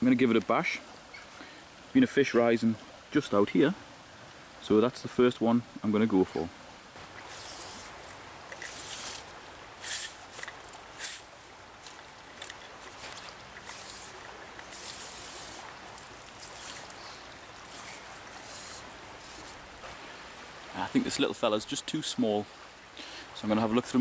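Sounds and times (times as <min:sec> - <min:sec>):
river water running over riffle: 0:00.0 - 0:24.0.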